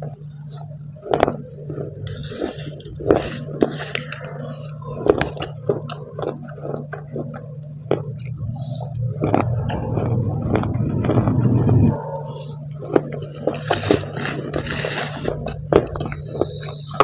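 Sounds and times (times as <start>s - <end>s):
chewing crunchy clay: 0.0s - 17.0s
low hum: 0.0s - 17.0s.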